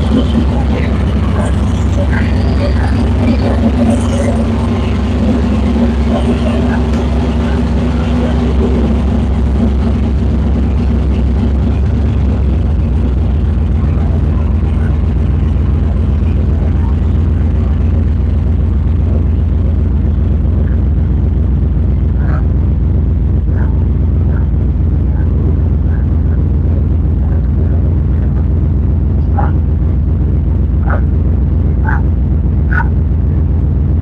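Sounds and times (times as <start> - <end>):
distorted truck engine rumble: 0.0 - 34.0.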